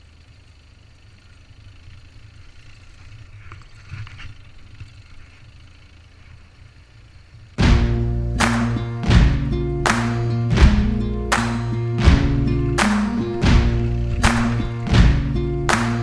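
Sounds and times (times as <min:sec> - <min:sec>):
motorcycle engines idling: 0:00.0 - 0:16.0.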